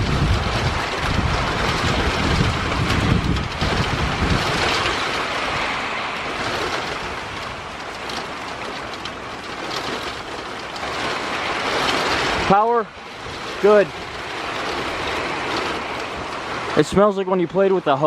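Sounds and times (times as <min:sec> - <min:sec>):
heavy rain pouring: 0:00.0 - 0:18.0
wind buffeting microphone: 0:00.0 - 0:18.0.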